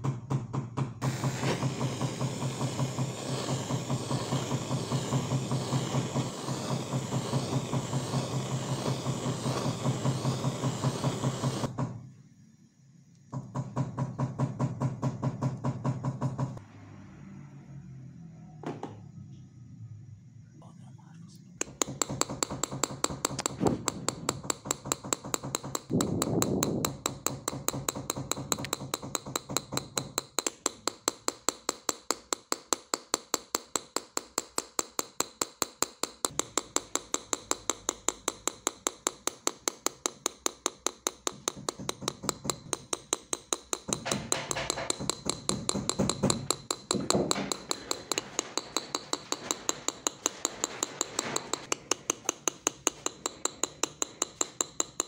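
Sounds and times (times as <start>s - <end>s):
engraving tool tapping metal: 1.0s - 11.8s, 21.6s - 55.0s.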